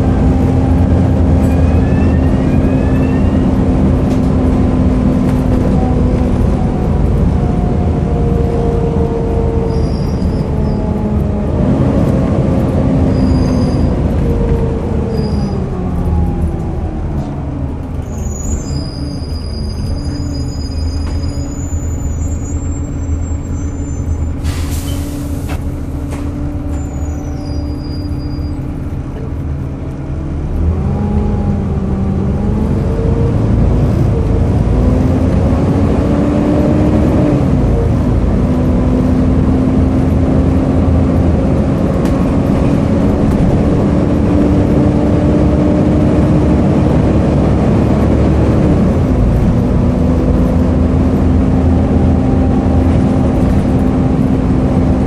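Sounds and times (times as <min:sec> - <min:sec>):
bus engine: 0:00.0 - 0:55.0.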